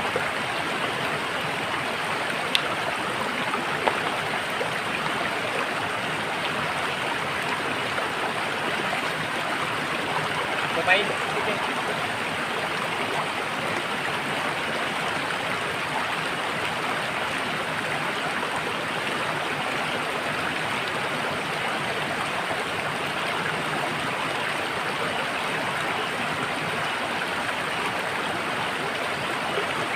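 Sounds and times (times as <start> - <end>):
running water rushing: 0.0 - 29.9.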